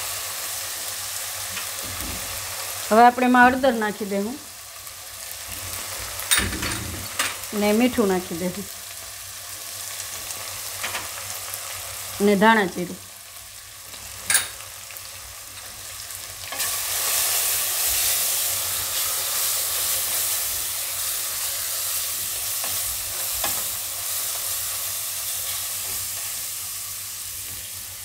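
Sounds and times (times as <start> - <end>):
masala sizzling in hot oil: 0.0 - 28.0.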